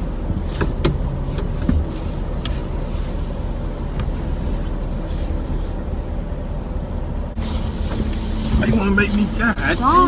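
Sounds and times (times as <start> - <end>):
car idling: 0.0 - 10.0.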